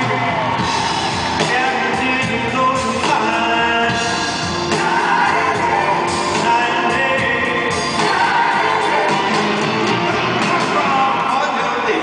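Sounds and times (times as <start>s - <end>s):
live blues band playing: 0.0s - 11.3s
person singing: 1.4s - 11.5s.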